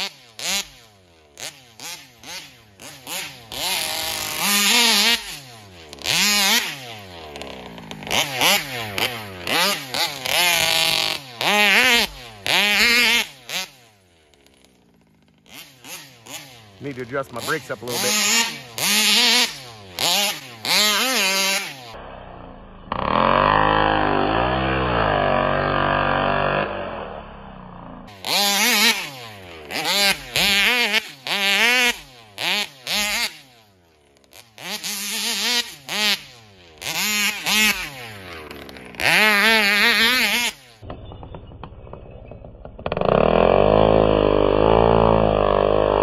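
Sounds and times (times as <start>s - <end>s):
two-stroke engine revving: 0.0s - 41.8s, 42.4s - 46.0s.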